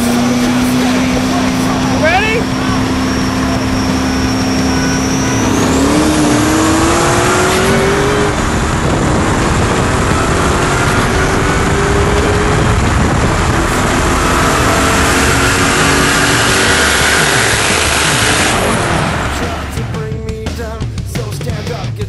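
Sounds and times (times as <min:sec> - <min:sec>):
car engines at full throttle: 0:00.0 - 0:22.0.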